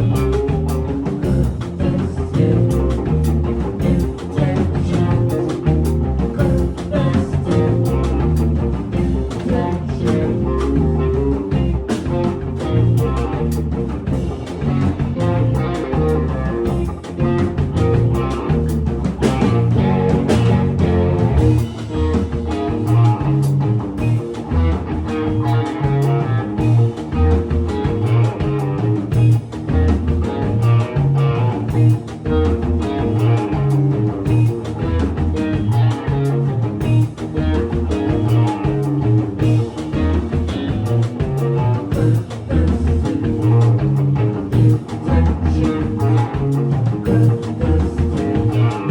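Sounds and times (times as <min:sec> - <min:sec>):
baritone electric guitar: 0:00.0 - 0:48.9
drum beat: 0:00.0 - 0:48.9.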